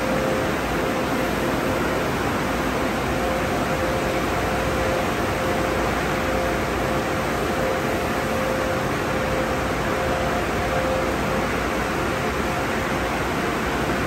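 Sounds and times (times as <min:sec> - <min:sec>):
faint constant whine: 0:00.0 - 0:14.0.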